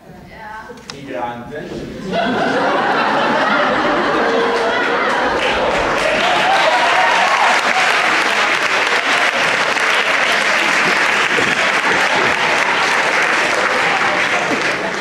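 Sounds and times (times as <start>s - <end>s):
crowd applauding: 2.5s - 15.0s.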